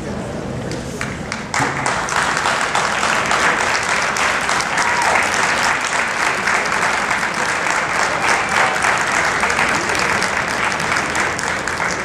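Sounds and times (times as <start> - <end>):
crowd applauding: 1.0 - 12.0.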